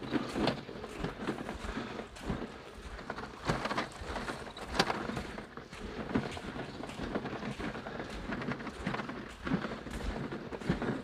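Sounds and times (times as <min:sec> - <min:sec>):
footsteps on wet sand: 0:00.0 - 0:11.0
wind rumbling on microphone: 0:00.0 - 0:11.0.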